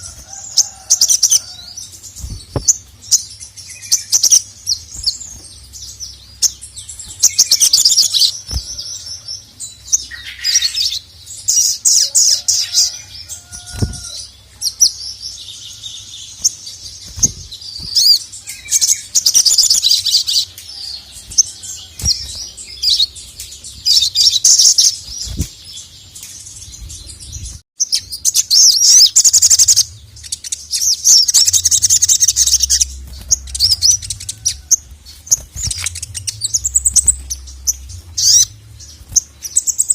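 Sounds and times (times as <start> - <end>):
bird singing high chattering phrases: 0.0 - 39.9.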